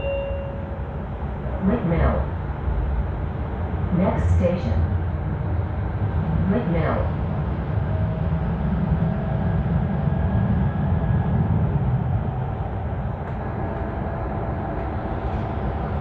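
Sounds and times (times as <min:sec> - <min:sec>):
wheels rumbling on track: 0:00.0 - 0:16.0.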